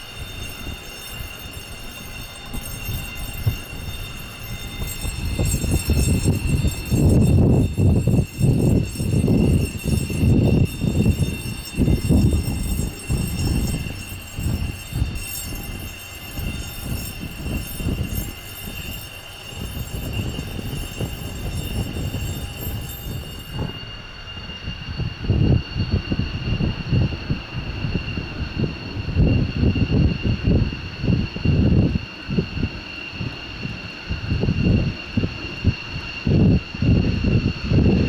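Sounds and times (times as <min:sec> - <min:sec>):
high jet whine: 0:00.0 - 0:38.0
jet engine rumble: 0:00.0 - 0:38.0.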